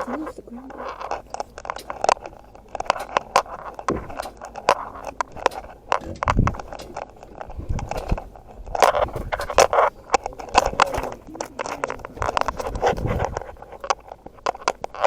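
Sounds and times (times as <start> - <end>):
metallic clicks and clanks: 0.0 - 15.0
scraping: 0.0 - 15.0.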